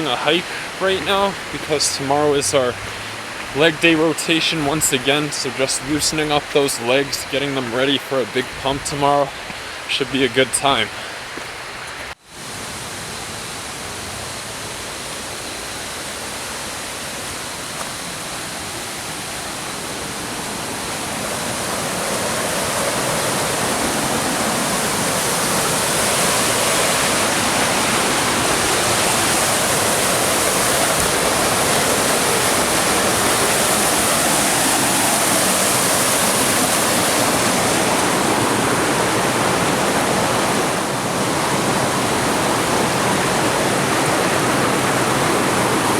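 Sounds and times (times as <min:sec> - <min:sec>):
stream water rushing: 0:00.0 - 0:45.9.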